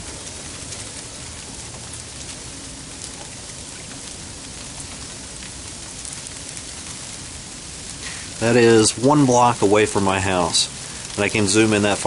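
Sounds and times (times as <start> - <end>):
drops and ice ticking: 0.0 - 12.0
freezing rain hiss: 0.0 - 12.0.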